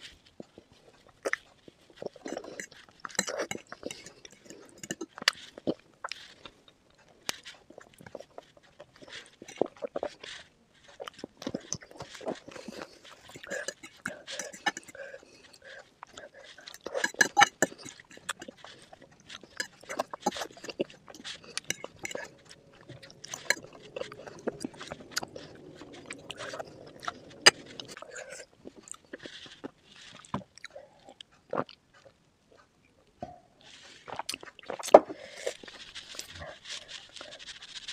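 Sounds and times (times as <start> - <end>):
chewing and crunching food: 0.0 - 37.9.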